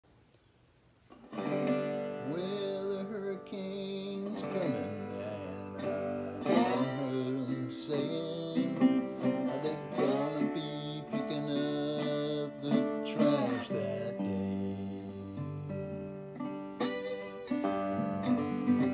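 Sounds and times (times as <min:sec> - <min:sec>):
resonator guitar: 0:01.0 - 0:18.9
man singing: 0:01.9 - 0:15.8, 0:17.6 - 0:18.9.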